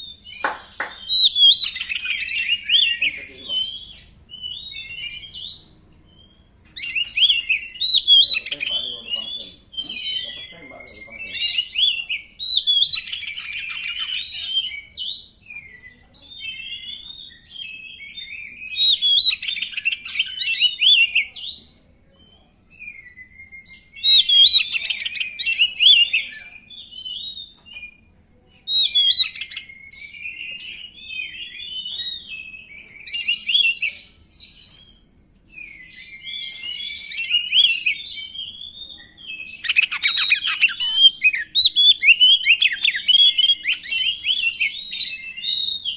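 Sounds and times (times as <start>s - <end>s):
songbird whistles and trills: 0.0s - 45.9s.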